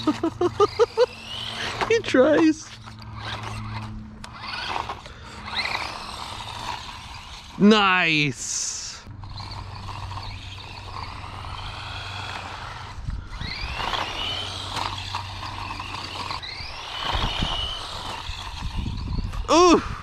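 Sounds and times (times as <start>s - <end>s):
toy truck electric motor whining: 0.0s - 20.0s.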